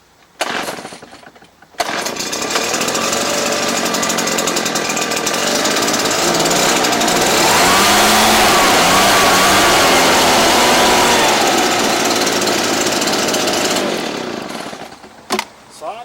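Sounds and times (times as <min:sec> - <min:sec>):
leaf blower engine running: 0:01.8 - 0:15.1.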